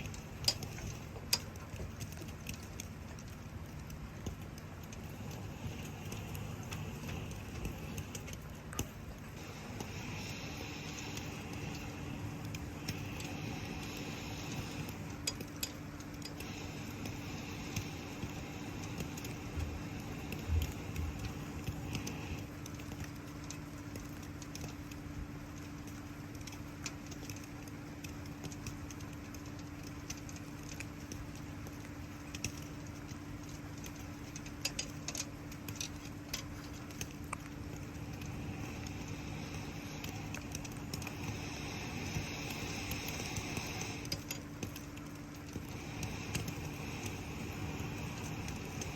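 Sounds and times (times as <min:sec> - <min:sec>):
campfire crackling and popping: 0:00.0 - 0:48.9
low hum: 0:00.0 - 0:48.9.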